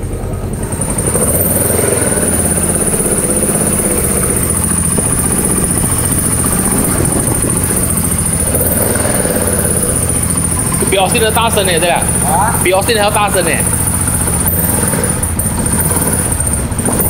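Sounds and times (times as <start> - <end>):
high whine: 0.0 - 17.0
motorcycle engine running: 0.0 - 17.0.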